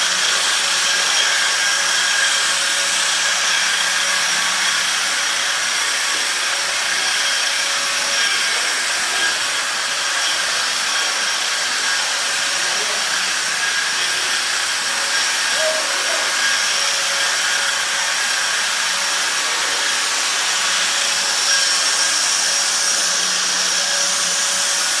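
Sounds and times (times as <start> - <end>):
electric sander whining: 0.0 - 25.0.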